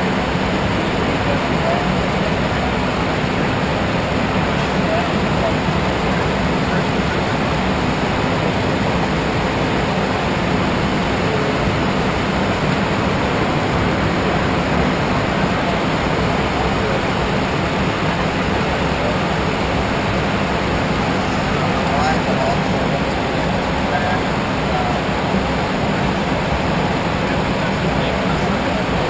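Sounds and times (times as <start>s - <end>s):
jet cabin rushing noise: 0.0s - 29.0s.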